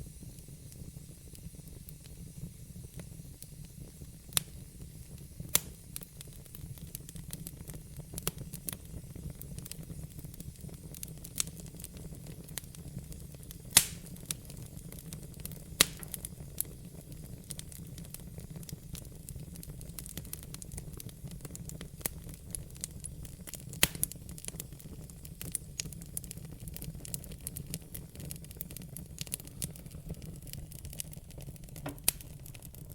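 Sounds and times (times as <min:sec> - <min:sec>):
logs crackling and popping in fire: 0:00.1 - 0:32.9.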